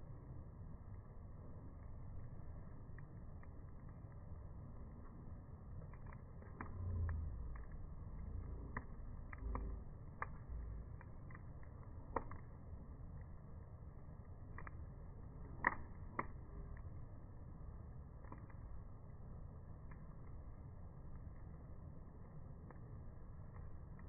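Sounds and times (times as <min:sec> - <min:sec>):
low rumble: 0:00.0 - 0:24.0
wood fire crackling: 0:00.0 - 0:24.0.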